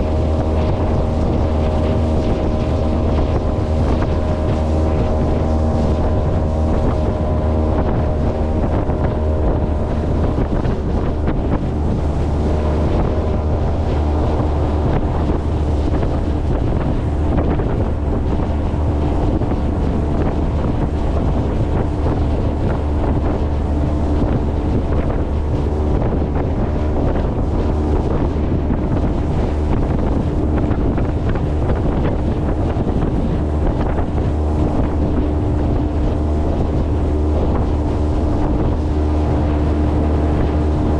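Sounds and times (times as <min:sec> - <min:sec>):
motorboat engine running: 0:00.0 - 0:40.9
rushing water: 0:00.0 - 0:40.9
wind buffeting microphone: 0:00.0 - 0:40.9.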